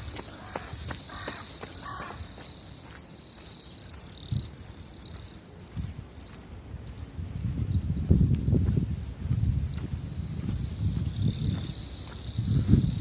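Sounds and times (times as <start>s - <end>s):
running footsteps: 0.0s - 5.5s, 6.2s - 13.0s
insects trilling: 0.0s - 8.1s, 8.8s - 13.0s.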